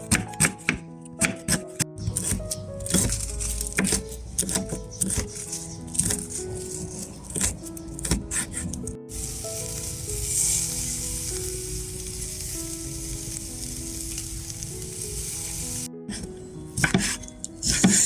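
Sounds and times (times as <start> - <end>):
background music: 0.0 - 18.0
pork sizzling: 0.0 - 18.0.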